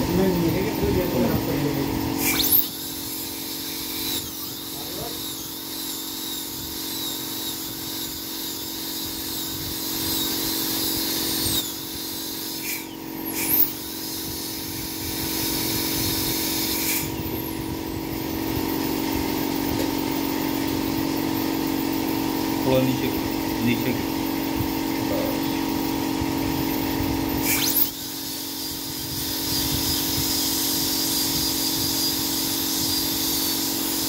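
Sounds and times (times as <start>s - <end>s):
dental drill whining: 0.0s - 34.0s
steady hum: 0.0s - 34.0s.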